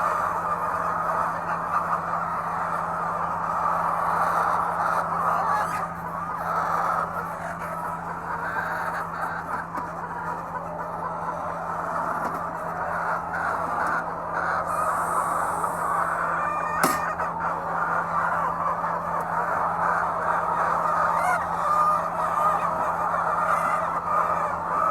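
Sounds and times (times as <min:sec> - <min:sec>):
hens clucking: 0:00.0 - 0:24.9.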